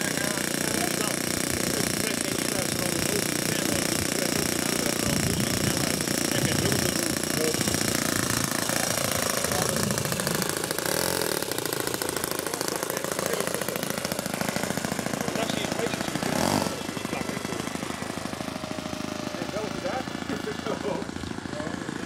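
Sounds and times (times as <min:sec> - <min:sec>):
model aircraft engine buzzing: 0:00.0 - 0:22.0.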